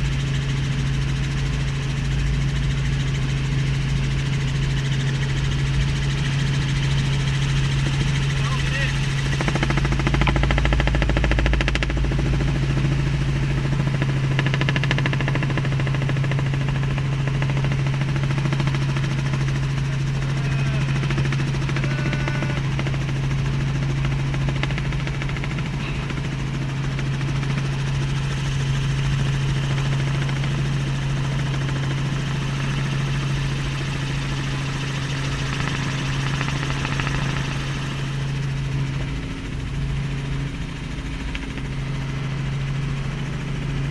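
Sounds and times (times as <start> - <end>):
helicopter drone: 0.0 - 43.9.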